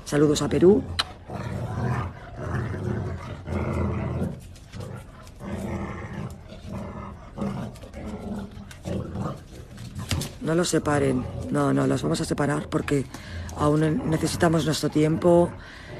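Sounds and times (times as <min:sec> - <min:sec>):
dogs growling: 0:00.0 - 0:15.9.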